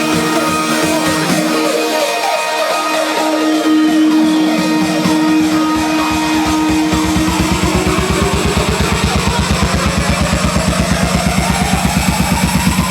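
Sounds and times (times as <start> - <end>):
fast pulsing beat: 0.0 - 12.9
note rising in pitch: 0.0 - 12.9
rock music with guitar: 0.0 - 12.9.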